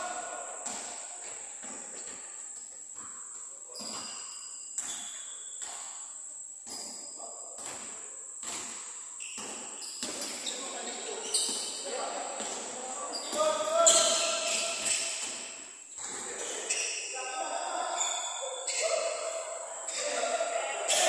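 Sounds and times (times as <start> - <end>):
sneaker squeaks: 0.0 - 21.0.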